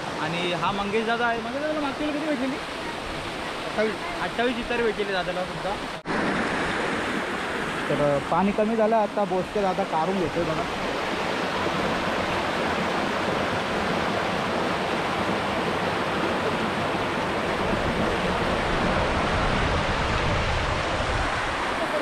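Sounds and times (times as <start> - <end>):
water rushing through culvert: 0.0 - 22.0.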